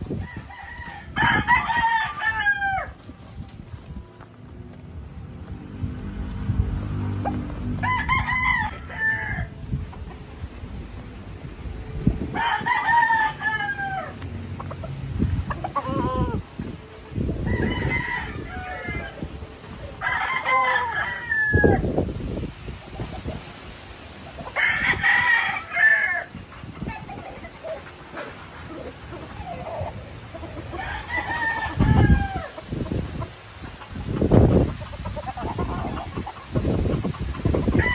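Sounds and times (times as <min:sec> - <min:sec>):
roosters crowing: 0:00.0 - 0:04.1, 0:06.0 - 0:10.4, 0:11.8 - 0:37.9.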